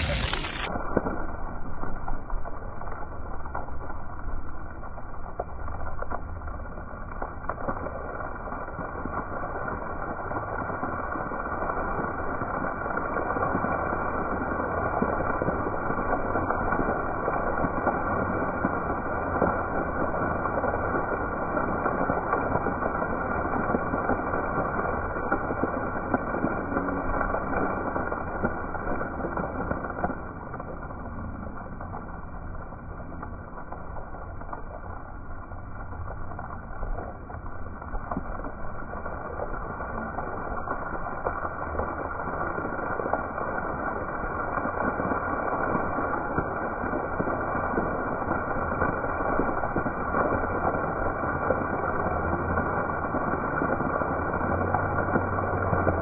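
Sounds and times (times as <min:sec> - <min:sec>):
fountain jets splashing: 0:00.0 - 0:56.0.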